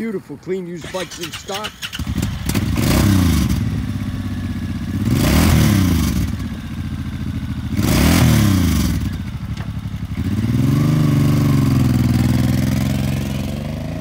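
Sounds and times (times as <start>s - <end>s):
motorcycle engine revving: 0.8s - 14.0s.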